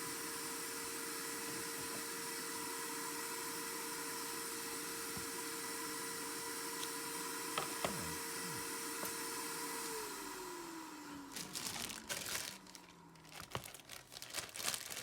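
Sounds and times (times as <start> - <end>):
hot air blower running: 0.0 - 13.7.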